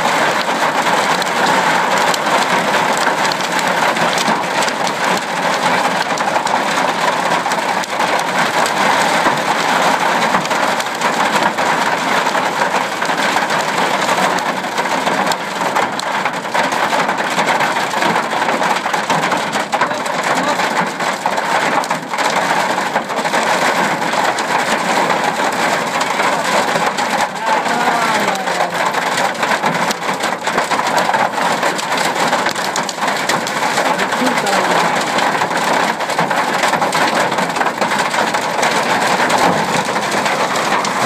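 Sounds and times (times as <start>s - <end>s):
hail clattering on car: 0.0s - 41.0s.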